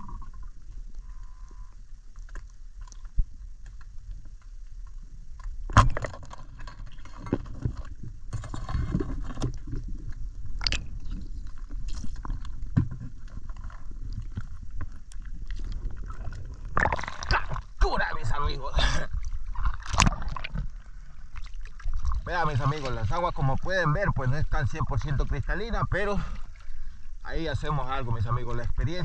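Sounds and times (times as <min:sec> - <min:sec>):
muffled underwater rumble: 0:00.0 - 0:29.0.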